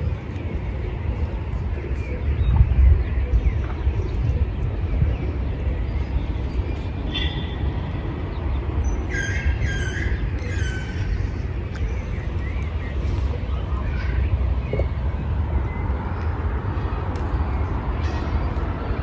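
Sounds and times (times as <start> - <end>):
steady low rumble: 0.0 - 8.7, 10.2 - 19.0
birds calling: 0.0 - 19.0.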